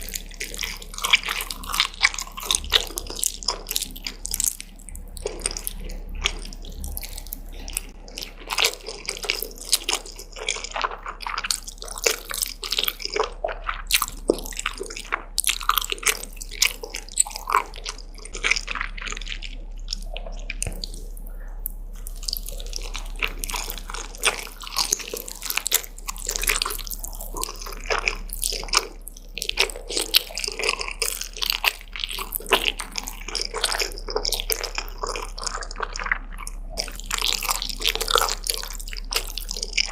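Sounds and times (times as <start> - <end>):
chewing and smacking: 0.0 - 39.9.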